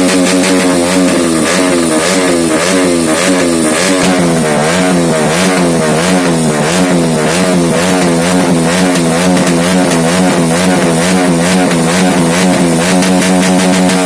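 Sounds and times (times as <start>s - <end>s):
vehicle engine at high revs: 0.0s - 14.0s.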